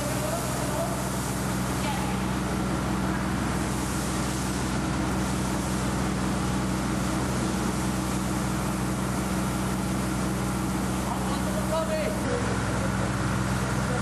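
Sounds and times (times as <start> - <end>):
fire hose spraying water: 0.0 - 14.0
low machine hum: 0.0 - 14.0.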